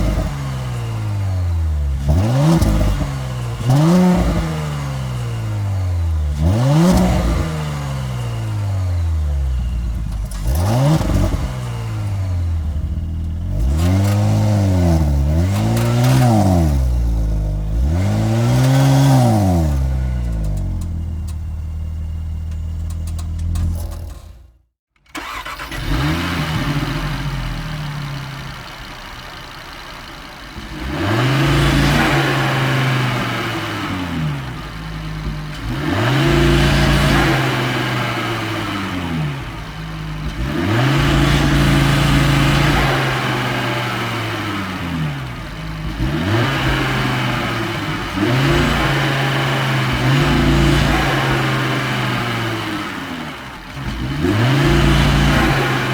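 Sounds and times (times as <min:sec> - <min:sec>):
car engine revving: 0:00.0 - 0:24.5, 0:25.1 - 0:55.9.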